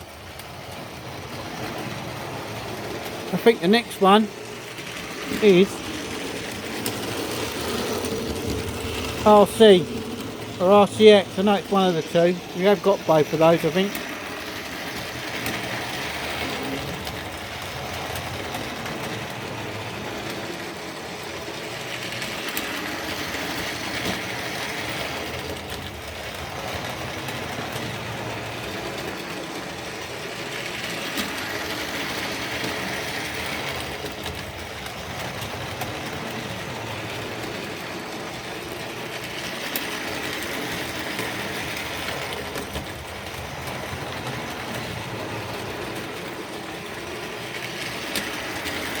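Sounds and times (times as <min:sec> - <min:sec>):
model train motor whir: 0:00.0 - 0:49.0
train wheel rattle: 0:00.0 - 0:49.0.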